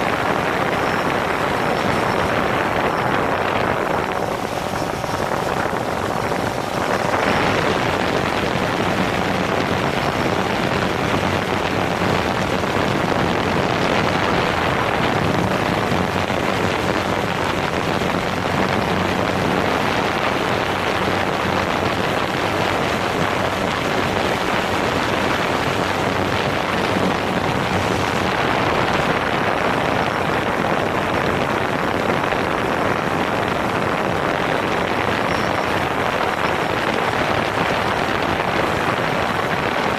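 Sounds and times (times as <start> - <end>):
drone propellers whirring: 0.0 - 39.3
wind rushing over microphone: 0.0 - 39.9.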